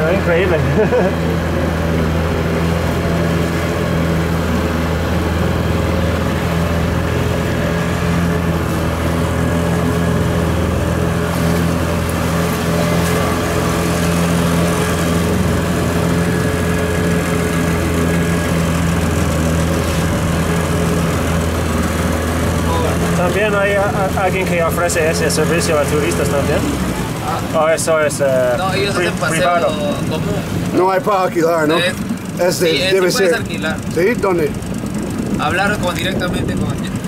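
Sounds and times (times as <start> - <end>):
boat engine idling: 0.0 - 37.0.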